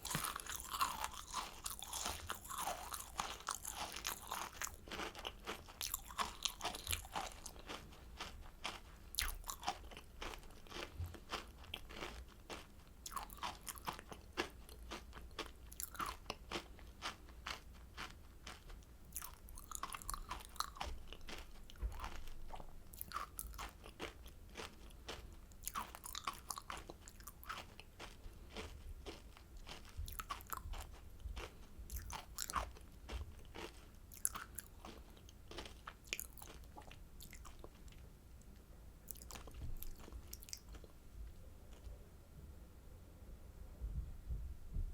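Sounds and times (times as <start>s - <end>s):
crunching and chewing candy: 0.0s - 42.0s.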